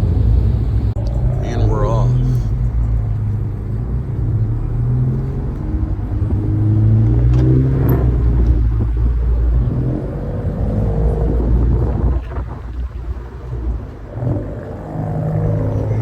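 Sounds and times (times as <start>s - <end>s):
car engine pulling away: 0.0s - 16.0s.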